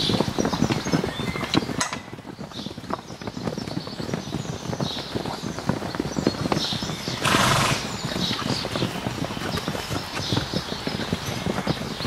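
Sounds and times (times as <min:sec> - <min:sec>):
pony hooves on dirt: 0:00.0 - 0:12.0.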